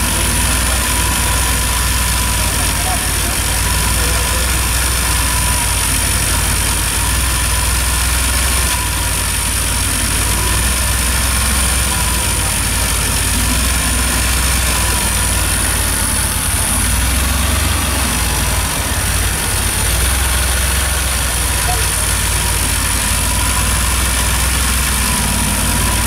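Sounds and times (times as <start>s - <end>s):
car engine idling: 0.0s - 26.0s
high whine: 0.0s - 26.0s.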